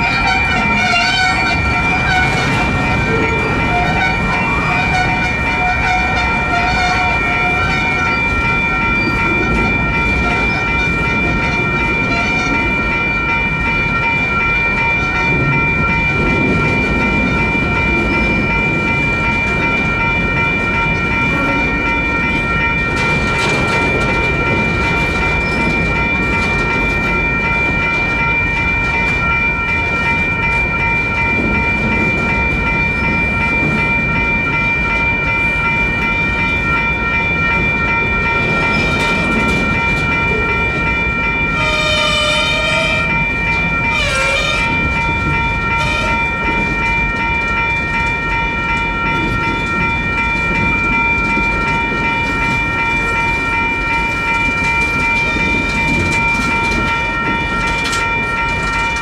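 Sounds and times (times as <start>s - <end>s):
crossing bells ringing: 0.0s - 59.0s
freight train rumble and clatter: 0.0s - 59.0s.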